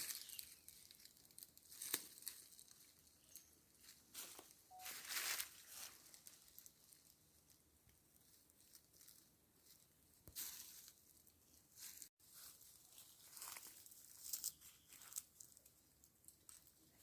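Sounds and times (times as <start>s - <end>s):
rustling and crackling: 0.0s - 17.0s.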